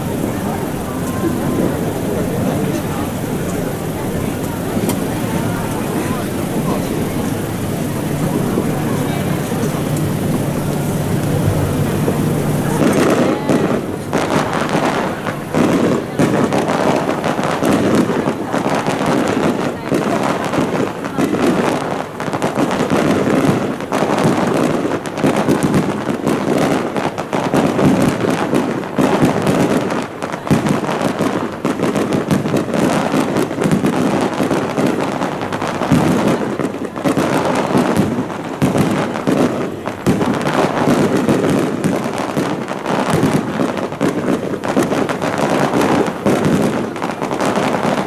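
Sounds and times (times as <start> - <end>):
fireworks bursting in barrage: 0.0 - 48.0.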